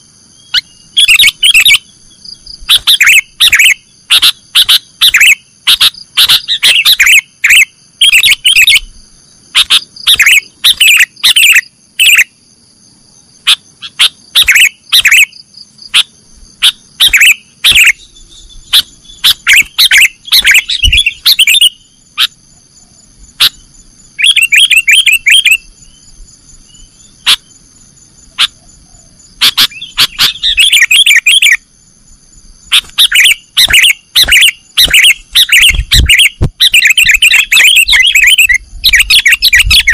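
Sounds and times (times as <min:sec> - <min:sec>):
bird singing sharp chirps: 0:00.3 - 0:12.3, 0:13.5 - 0:22.4, 0:23.4 - 0:27.6, 0:28.2 - 0:31.6, 0:32.7 - 0:39.9.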